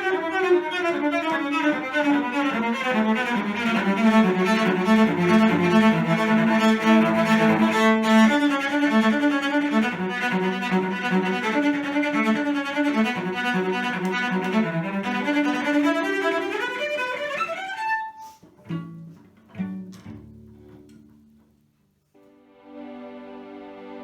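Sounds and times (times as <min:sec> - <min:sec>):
violin and cello playing: 0:00.0 - 0:19.8.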